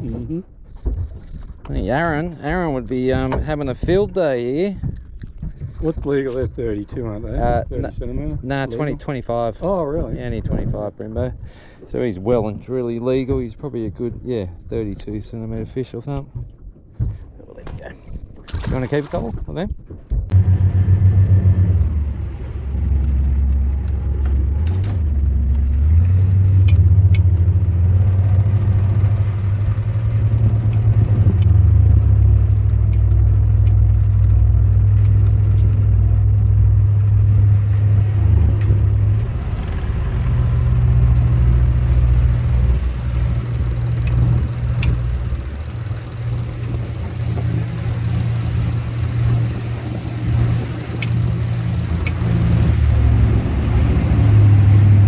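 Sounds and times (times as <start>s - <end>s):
engine deep steady drone: 0.0s - 18.6s, 20.1s - 55.0s.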